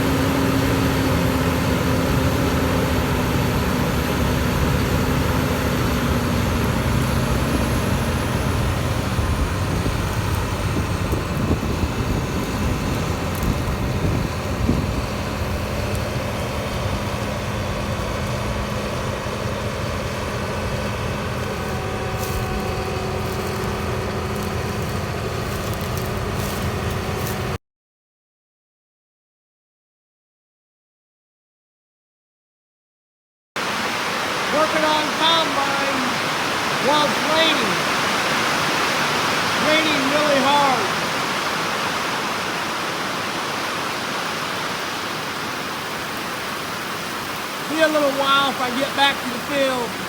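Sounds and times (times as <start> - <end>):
heavy diesel engine running: 0.0 - 27.6, 33.6 - 50.0.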